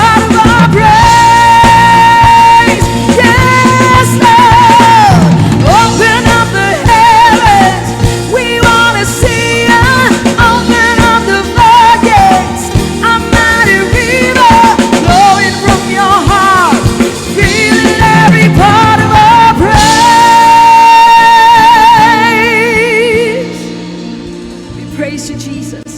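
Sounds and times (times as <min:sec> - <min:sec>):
worship band playing: 0:00.0 - 0:25.9.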